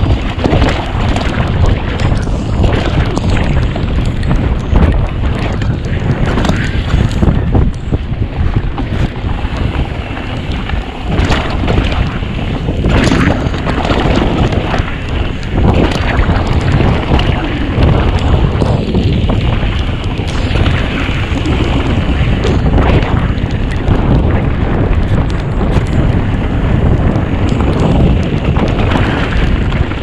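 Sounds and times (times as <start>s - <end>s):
bike knocking over bumps: 0.0s - 30.0s
bike tyres and frame noise: 0.0s - 30.0s
wind buffeting microphone: 0.0s - 30.0s.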